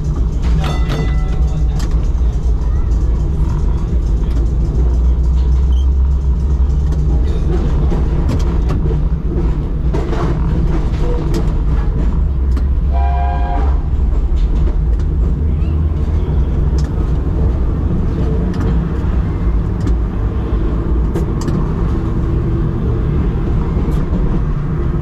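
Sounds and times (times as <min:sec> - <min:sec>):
clicks of wheels on rails: 0:00.0 - 0:25.0
tram motors and wheels rumbling: 0:00.0 - 0:25.0.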